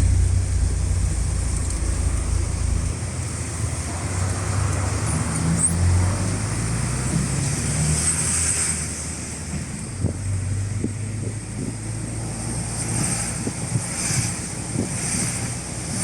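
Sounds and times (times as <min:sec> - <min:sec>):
car engine rumble: 0:00.0 - 0:07.8, 0:09.0 - 0:16.0
tyres hissing on wet road: 0:00.0 - 0:10.0, 0:11.1 - 0:16.0.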